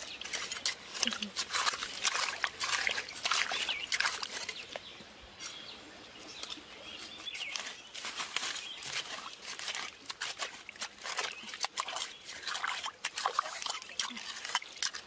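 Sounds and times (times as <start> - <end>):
hands splashing in muddy water: 0.0 - 4.8, 7.3 - 15.0
birds chirping: 0.0 - 10.0, 10.6 - 13.1.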